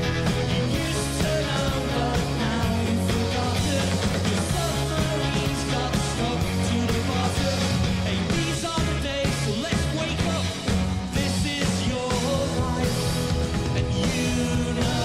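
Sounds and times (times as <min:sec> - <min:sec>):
drums: 0:00.0 - 0:15.0
electric guitar: 0:00.0 - 0:15.0
person singing: 0:00.5 - 0:15.0.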